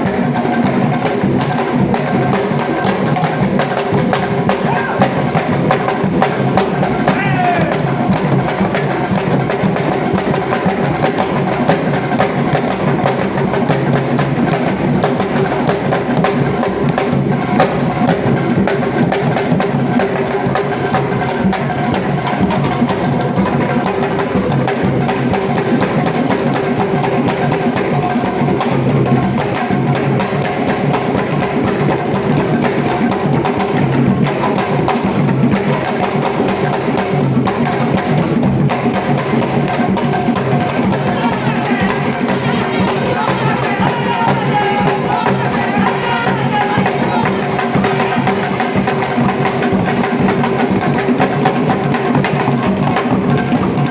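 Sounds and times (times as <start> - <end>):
drum-led percussion music: 0.0 - 53.9.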